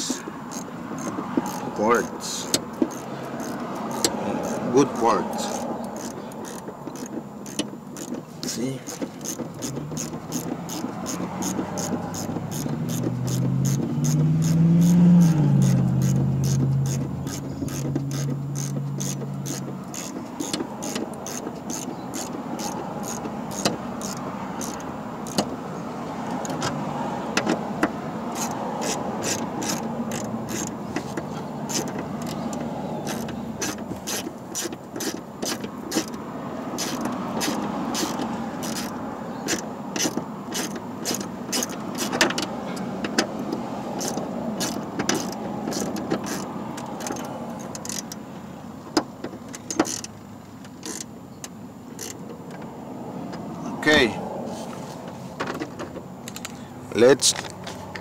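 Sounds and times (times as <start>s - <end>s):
socket ratchet clicking: 0.4s - 25.5s, 27.4s - 48.2s, 49.5s - 50.2s, 50.8s - 51.1s, 52.0s - 52.2s.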